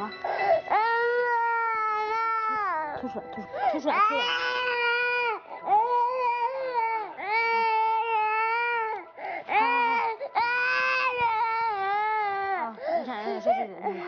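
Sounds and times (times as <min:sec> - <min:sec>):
toddler crying: 0:00.2 - 0:03.0, 0:03.7 - 0:14.0.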